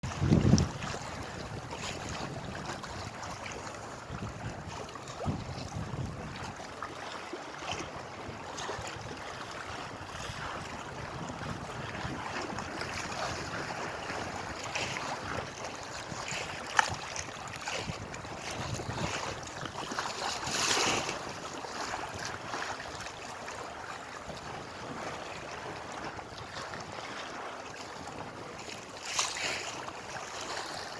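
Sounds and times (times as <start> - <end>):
water lapping and splashing: 0.0 - 30.9
wind on microphone: 0.0 - 30.9.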